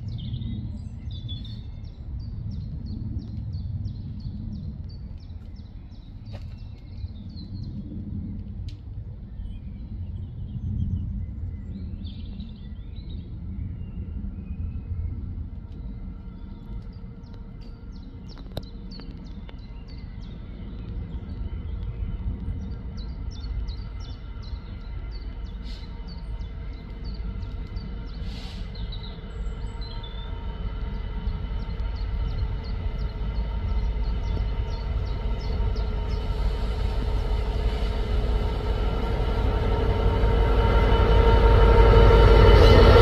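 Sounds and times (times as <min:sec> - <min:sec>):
diesel locomotive droning: 0:00.0 - 0:43.0.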